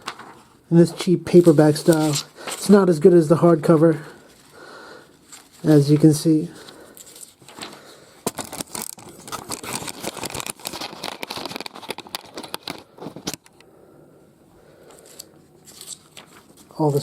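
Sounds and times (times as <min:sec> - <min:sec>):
comic book pages rustling: 0:00.0 - 0:13.6, 0:14.9 - 0:17.0.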